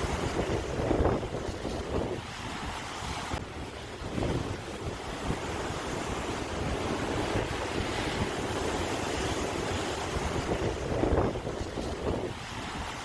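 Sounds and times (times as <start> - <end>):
sea waves washing on shore: 0.0 - 13.0
wind gusts on microphone: 0.0 - 13.0.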